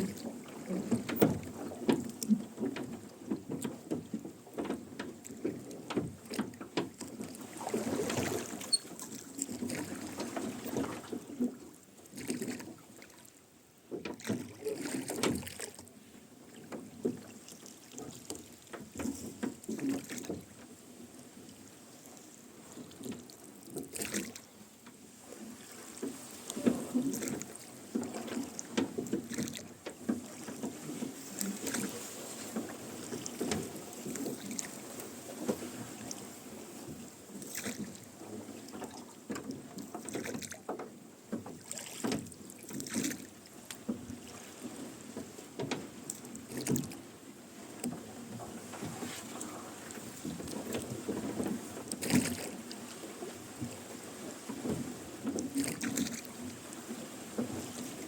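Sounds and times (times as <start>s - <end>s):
oars creaking in oarlocks: 0.0s - 58.0s
oars splashing in water: 0.0s - 58.0s.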